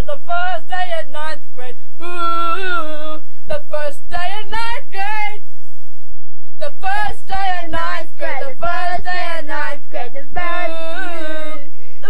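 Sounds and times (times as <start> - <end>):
girl singing unaccompanied: 0.0 - 5.5, 6.6 - 12.0.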